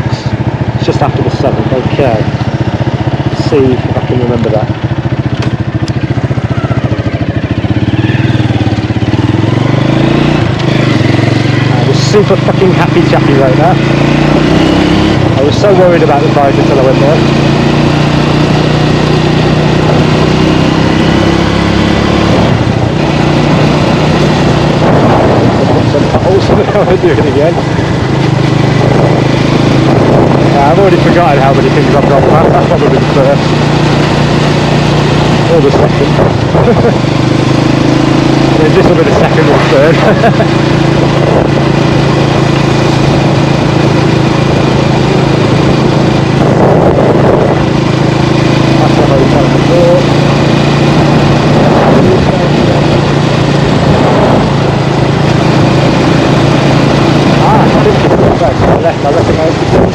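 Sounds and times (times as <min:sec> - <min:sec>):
motorbike engine running: 0:00.0 - 0:59.9
wind and road noise: 0:00.0 - 0:59.9.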